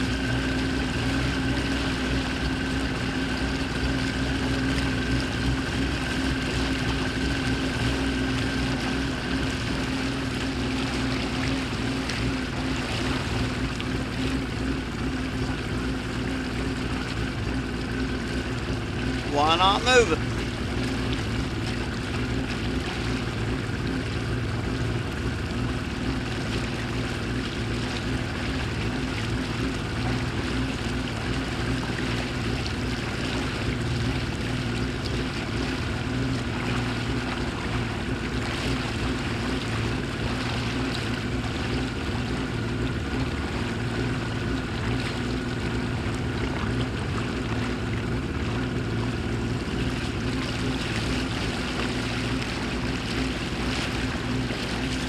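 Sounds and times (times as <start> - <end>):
boat motor running: 0.0 - 55.0
water washing: 1.1 - 55.0.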